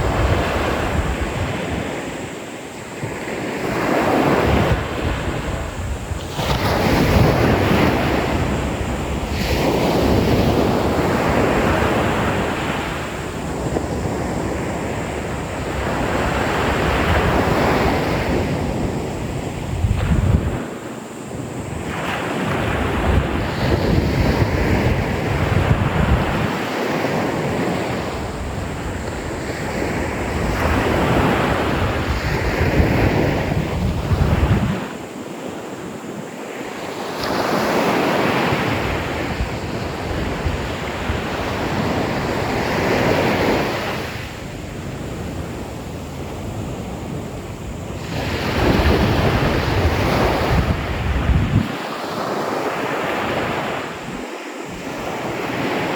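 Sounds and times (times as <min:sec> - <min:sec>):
wind buffeting microphone: 0:00.0 - 0:36.2, 0:36.8 - 0:55.9
sea waves breaking on beach: 0:00.0 - 0:55.9.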